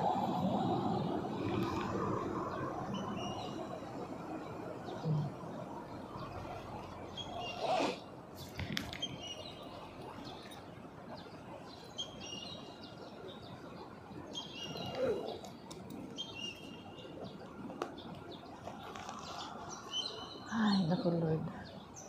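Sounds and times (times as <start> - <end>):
street noise hum: 0.0 - 22.0
small birds chirping: 1.0 - 22.0.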